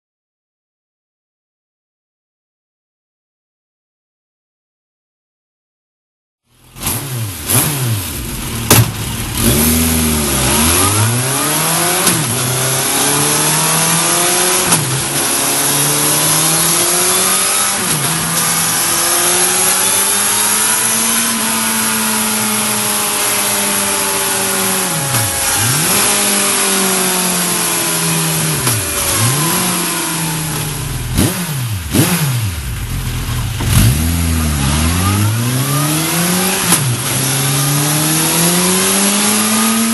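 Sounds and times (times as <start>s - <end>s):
motorcycle engine revving: 6.5s - 39.9s.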